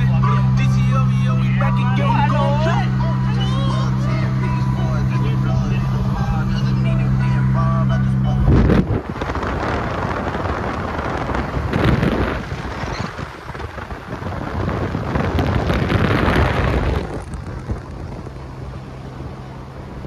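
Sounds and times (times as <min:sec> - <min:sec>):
low hum: 0:00.0 - 0:20.0
road and wind noise in car: 0:00.0 - 0:20.0.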